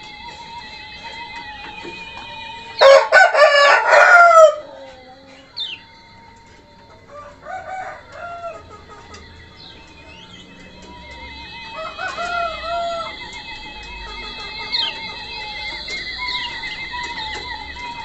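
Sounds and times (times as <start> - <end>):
high bird chirps: 0.0 - 18.0
thin background tones: 0.0 - 18.0
rooster crowing: 0.3 - 18.0.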